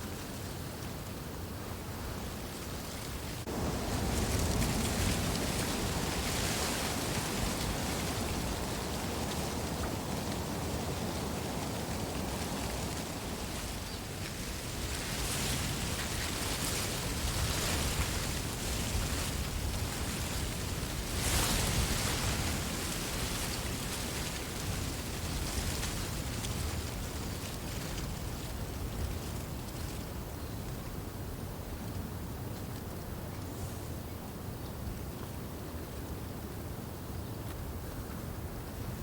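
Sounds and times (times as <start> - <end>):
wind rustling through reeds: 0.0 - 39.0.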